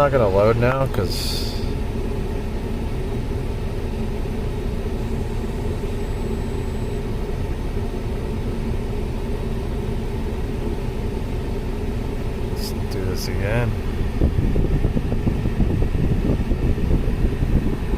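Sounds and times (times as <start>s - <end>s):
cabin blower fan: 0.0s - 17.9s
car engine idling: 0.0s - 17.9s.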